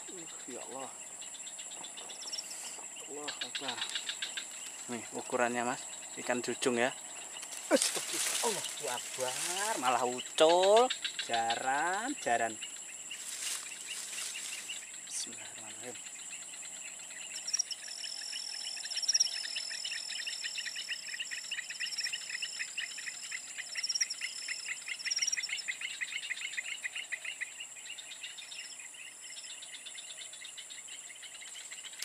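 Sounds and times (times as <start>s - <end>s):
fast pulsing insect trill: 0.0s - 32.0s
insect chorus drone: 0.0s - 32.0s.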